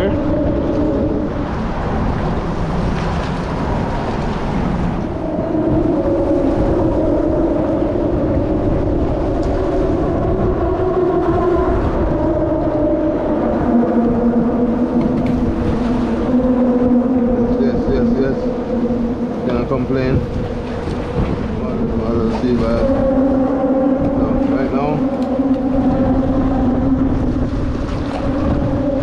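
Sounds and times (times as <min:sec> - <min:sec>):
mechanical drone: 0:00.0 - 0:29.0
water rushing: 0:00.0 - 0:29.0
wind: 0:00.0 - 0:29.0.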